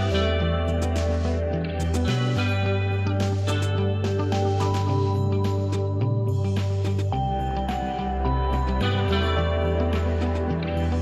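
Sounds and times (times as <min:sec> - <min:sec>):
plucked guitar: 0:00.0 - 0:11.0
soft instrumental music: 0:00.0 - 0:11.0.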